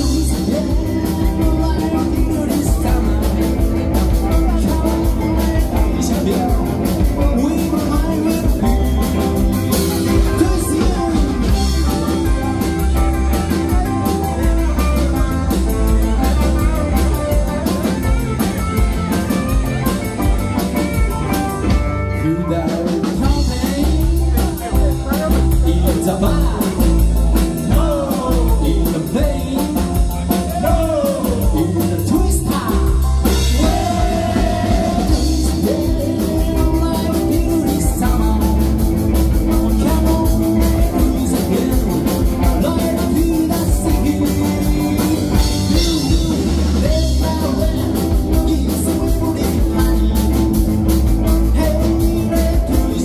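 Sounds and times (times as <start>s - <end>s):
lead vocalist singing: 0.0s - 18.1s, 21.4s - 53.0s
bass guitar: 0.0s - 53.0s
drum kit steady beat: 0.0s - 53.0s
electric guitars: 0.0s - 53.0s.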